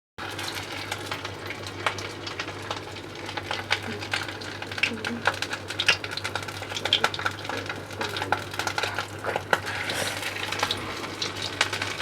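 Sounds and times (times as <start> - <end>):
fish deep-frying in oil: 0.2 - 12.0.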